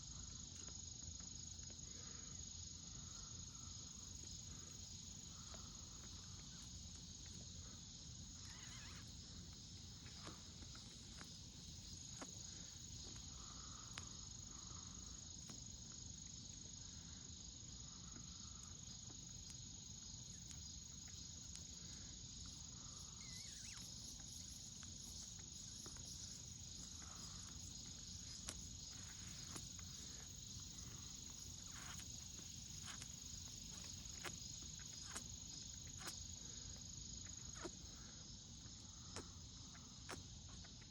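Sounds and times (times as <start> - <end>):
insects high-pitched drone: 0.0 - 40.9.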